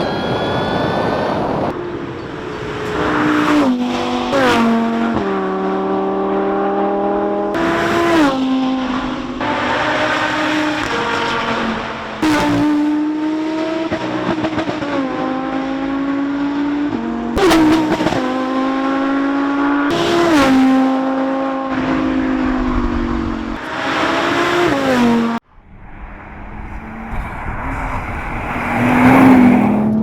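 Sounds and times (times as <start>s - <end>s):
exhaust crack: 1.7s - 30.0s
sports car engine revving: 1.7s - 30.0s.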